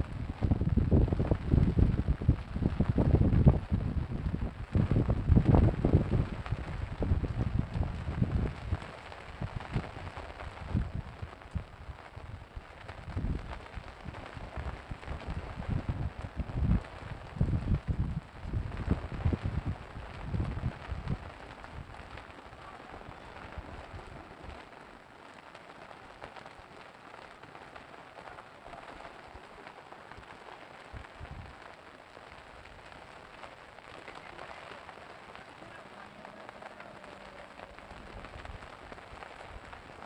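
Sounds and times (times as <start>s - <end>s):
floodwater rushing: 0.0s - 40.0s.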